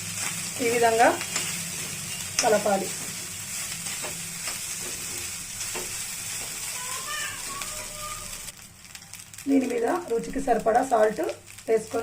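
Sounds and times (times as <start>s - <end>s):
rice sizzling in oil: 0.0s - 12.0s.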